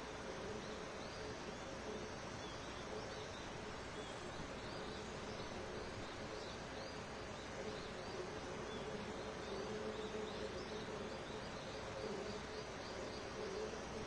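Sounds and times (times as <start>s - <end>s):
insects droning: 0.0s - 14.0s
small birds chirping: 0.0s - 14.0s.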